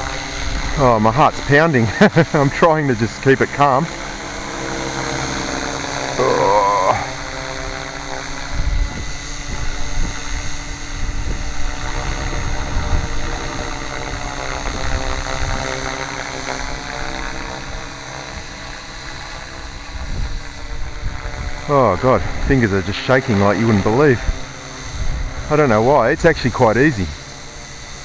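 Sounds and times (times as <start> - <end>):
model helicopter rotor: 0.0 - 28.0.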